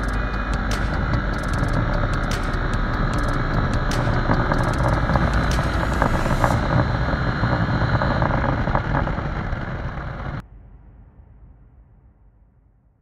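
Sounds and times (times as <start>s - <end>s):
motorcycle engine running: 0.0s - 10.4s
wind rushing over microphone: 0.0s - 10.4s.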